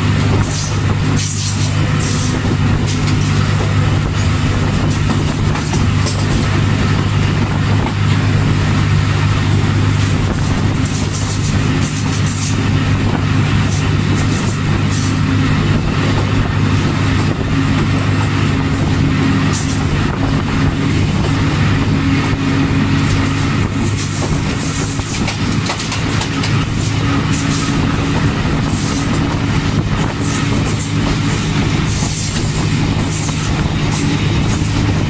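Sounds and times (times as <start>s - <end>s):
locomotive diesel engine drone: 0.0s - 35.0s
rumble and hiss of moving train: 0.0s - 35.0s.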